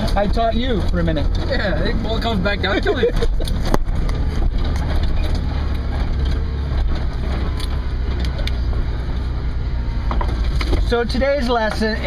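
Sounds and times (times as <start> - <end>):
knocks and rattles: 0.0 - 9.4, 10.0 - 12.0
engine and drivetrain rumble: 0.0 - 12.0
road noise: 0.0 - 12.0.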